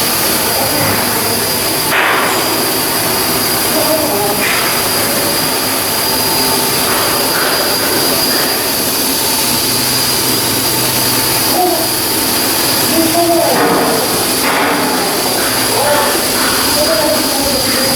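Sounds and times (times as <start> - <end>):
machinery high whine: 0.0 - 17.9.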